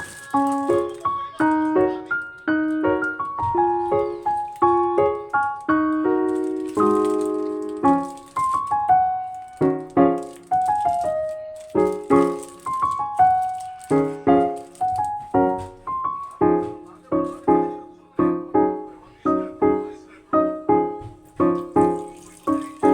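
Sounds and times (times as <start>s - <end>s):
piano music: 0.0s - 22.9s.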